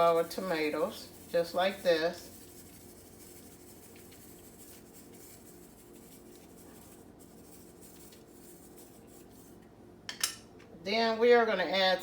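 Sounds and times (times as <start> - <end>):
salt sprinkling on tomatoes: 0.0 - 9.6
low steady hum: 0.0 - 12.0.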